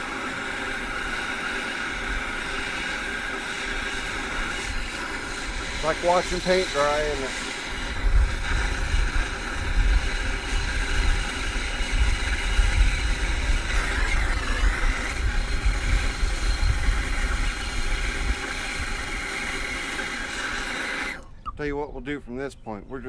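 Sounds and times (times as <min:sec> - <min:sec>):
gas torch roaring: 0:00.0 - 0:21.3.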